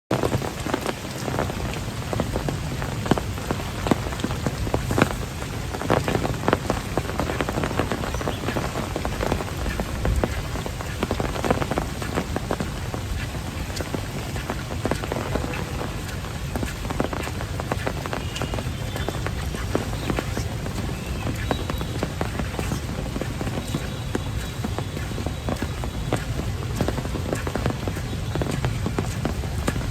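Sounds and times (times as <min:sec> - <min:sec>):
heavy rain pouring: 0:00.1 - 0:29.9.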